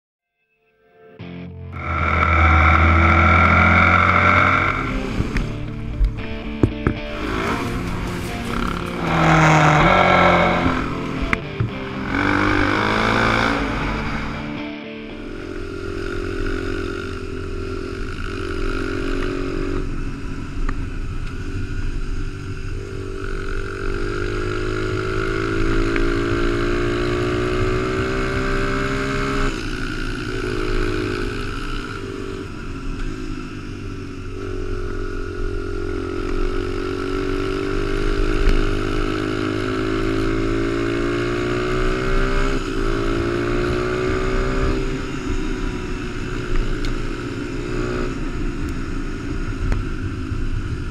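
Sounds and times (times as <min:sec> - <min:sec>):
dirt bike engine revving: 0:01.7 - 0:20.6, 0:21.4 - 0:50.9.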